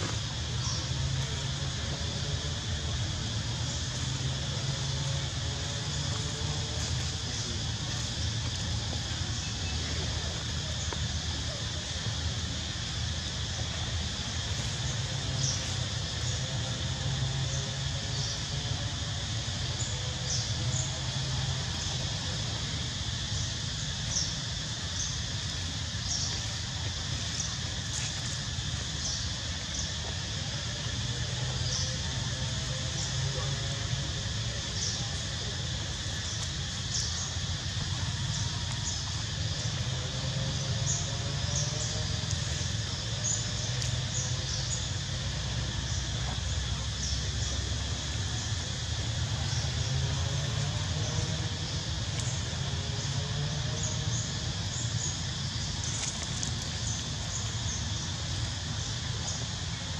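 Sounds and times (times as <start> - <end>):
constant low rumble: 0.0 - 59.9
steady high hiss: 0.0 - 59.9
steady low hum: 0.0 - 59.9.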